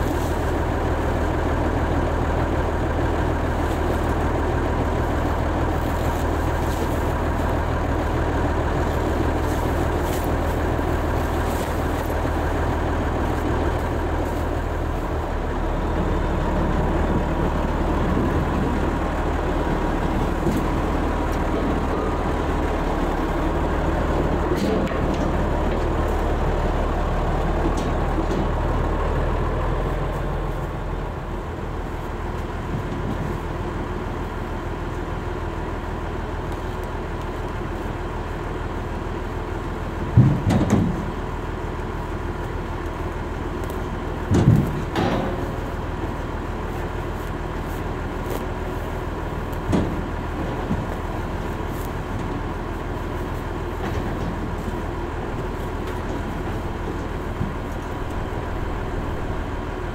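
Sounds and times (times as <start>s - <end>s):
steady rumble: 0.0s - 59.9s
tractor engine running: 0.0s - 59.9s.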